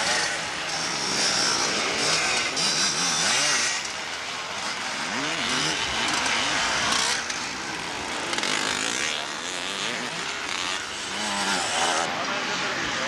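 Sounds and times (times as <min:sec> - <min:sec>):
motocross motorcycle engines revving: 0:00.0 - 0:13.0.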